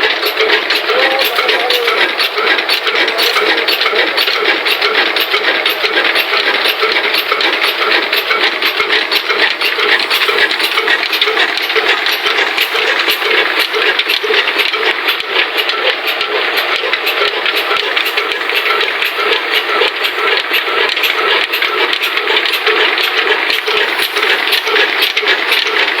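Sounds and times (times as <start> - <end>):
flour mill mechanical clatter: 0.0 - 26.0
sharp ticking: 0.0 - 26.0.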